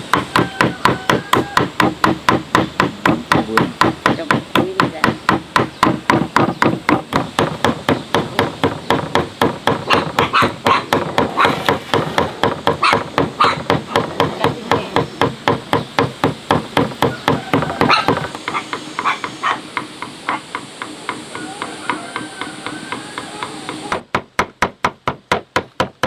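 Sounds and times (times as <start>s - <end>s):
cleaver chopping meat on wood: 0.0s - 26.0s.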